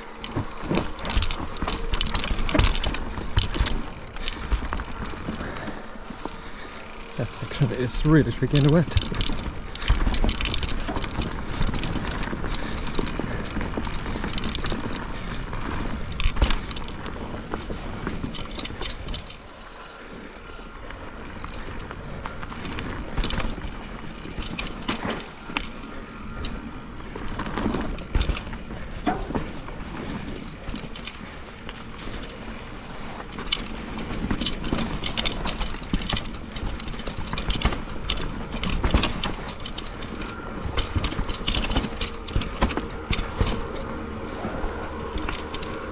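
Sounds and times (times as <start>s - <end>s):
bike clattering over roots: 0.0s - 45.9s
tyres on wet dirt: 0.0s - 45.9s.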